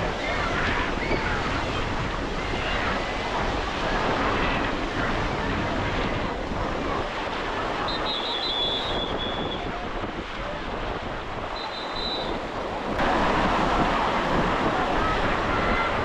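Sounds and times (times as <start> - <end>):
ocean surf washing onto beach: 0.0 - 16.0
wind buffeting microphone: 0.0 - 16.0.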